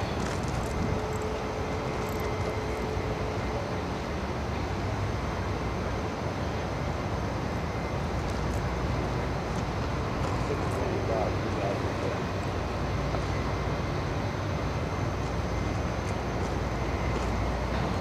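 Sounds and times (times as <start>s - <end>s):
faint steady whine: 0.0s - 18.0s
train wheels rumbling on rail: 0.0s - 18.0s.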